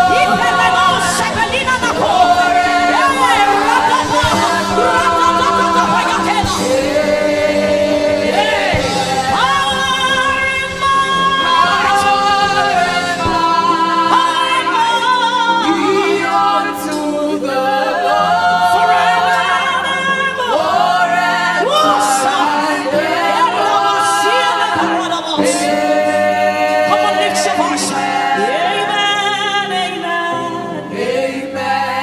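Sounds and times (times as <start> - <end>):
sustained chords: 0.0 - 30.1
woman singing gospel: 0.0 - 32.0.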